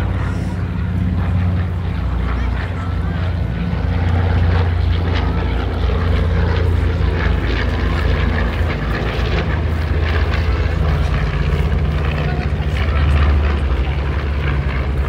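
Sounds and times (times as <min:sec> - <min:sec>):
airplane piston engine drone: 0:00.0 - 0:15.0.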